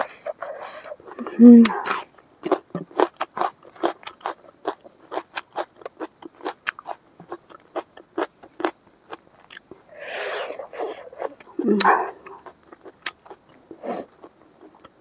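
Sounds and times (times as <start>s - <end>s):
chewing fried chicken: 0.0s - 15.0s.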